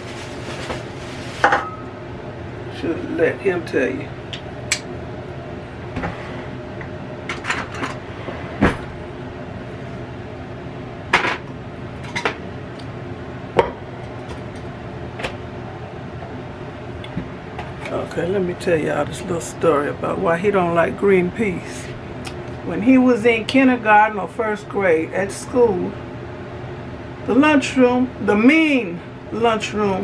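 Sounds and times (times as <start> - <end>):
air fryer fan humming: 0.0 - 30.0.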